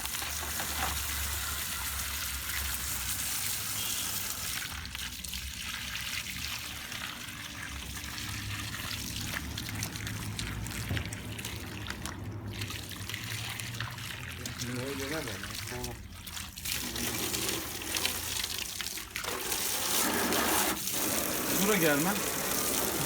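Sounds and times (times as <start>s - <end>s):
water spraying and trickling: 0.0s - 23.0s.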